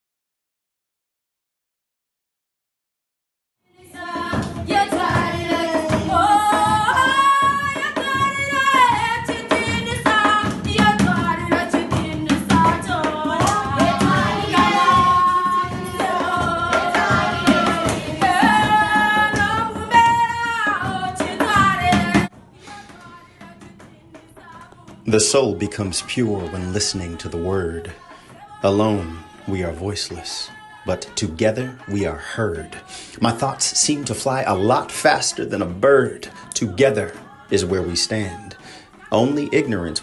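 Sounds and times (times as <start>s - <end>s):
drums and instruments: 3.8s - 40.0s.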